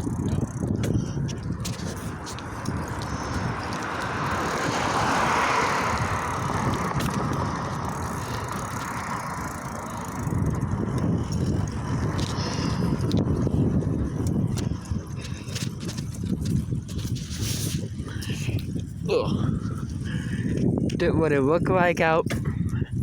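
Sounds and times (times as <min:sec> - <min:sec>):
road noise from bicycle: 0:00.0 - 0:23.0
wind buffeting microphone: 0:00.0 - 0:23.0.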